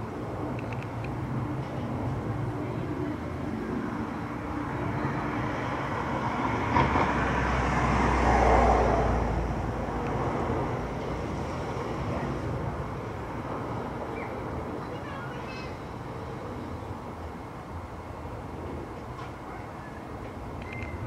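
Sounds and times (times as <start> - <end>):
road vehicle passing by: 0.0 - 21.0.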